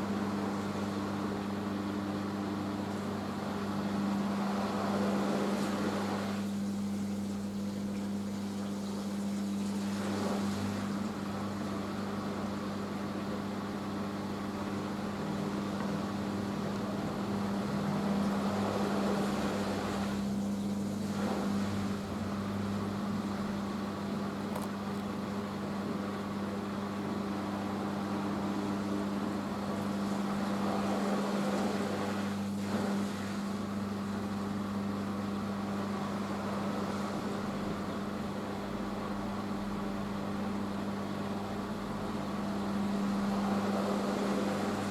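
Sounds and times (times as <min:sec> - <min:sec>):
washing machine spinning: 0:00.0 - 0:44.9.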